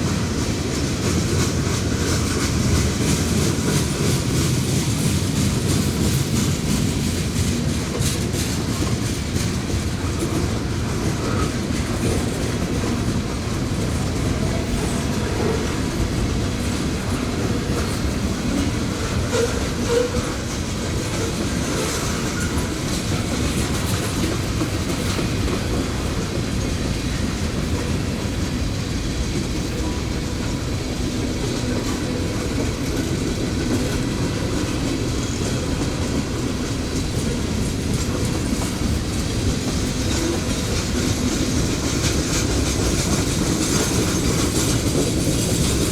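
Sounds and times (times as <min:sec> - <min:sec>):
train cars rolling past: 0:00.0 - 0:45.9
wheels clicking over rail joints: 0:00.0 - 0:45.9.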